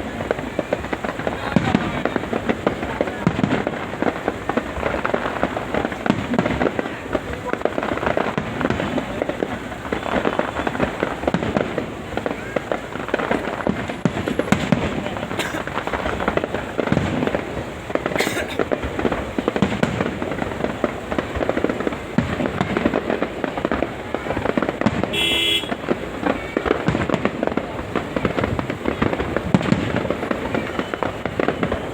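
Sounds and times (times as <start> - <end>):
fireworks bangs and crackles: 0.0 - 31.9.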